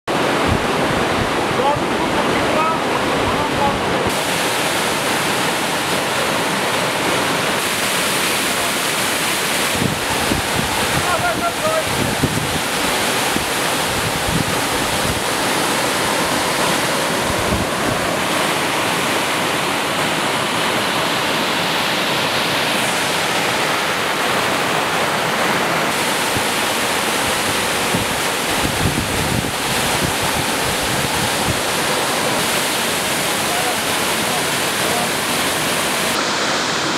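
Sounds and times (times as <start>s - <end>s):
water rushing over rocks: 0.1s - 36.9s.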